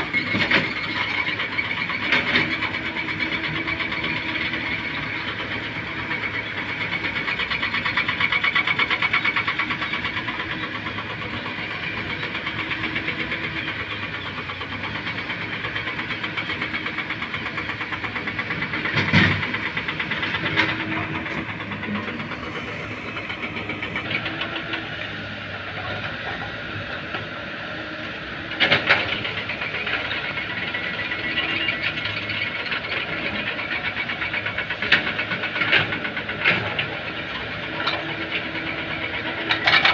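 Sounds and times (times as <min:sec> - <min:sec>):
excavator diesel engine chatter: 0:00.0 - 0:39.9.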